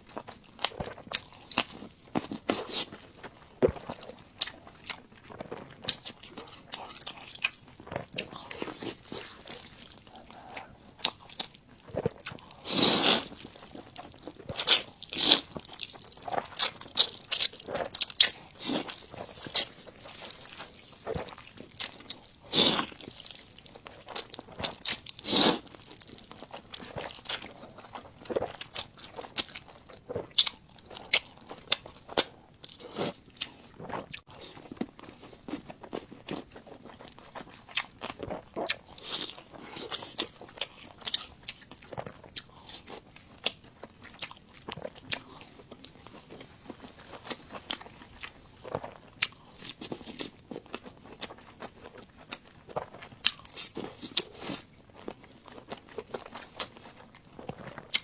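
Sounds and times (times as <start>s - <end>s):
person chewing noodles: 0.0s - 58.0s.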